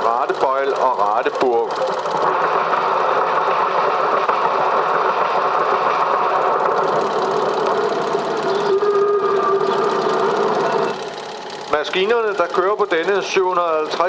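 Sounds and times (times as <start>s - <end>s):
mechanical running noise with rattle: 0.0s - 14.0s
steady hum: 0.0s - 14.0s.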